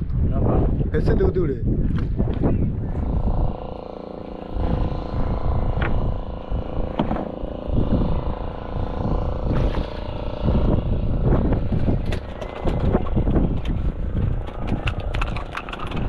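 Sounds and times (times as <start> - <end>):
rumble of wind and water: 0.0 - 16.0
boat engine running: 2.0 - 16.0.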